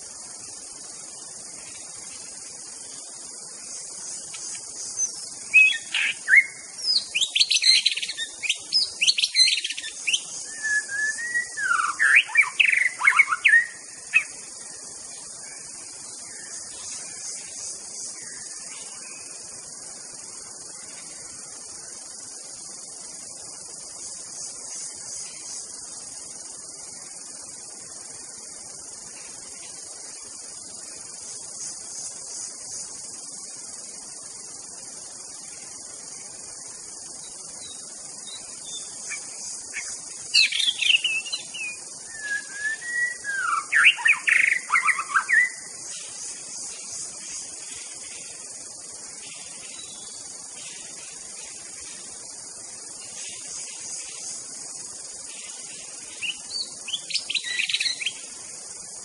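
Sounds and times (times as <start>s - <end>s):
insect chorus: 0.0s - 59.0s
songbird singing: 0.0s - 59.0s.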